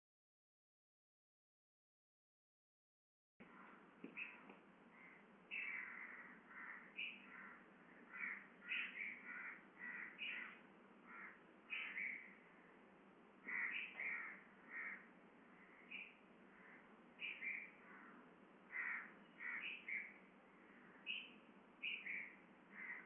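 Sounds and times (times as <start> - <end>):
bird calling: 3.4 - 12.7, 13.4 - 23.0
faint steady hiss: 3.4 - 23.0.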